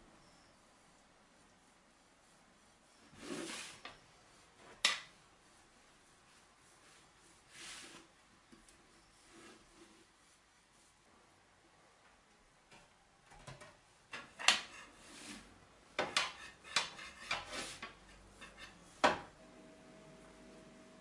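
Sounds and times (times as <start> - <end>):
faint steady hum: 0.0 - 14.3, 14.9 - 21.0.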